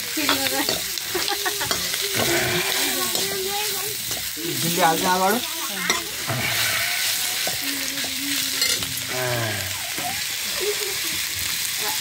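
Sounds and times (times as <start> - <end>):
chicken sizzling in oil: 0.0 - 12.0
spatula scraping wok: 0.0 - 12.0.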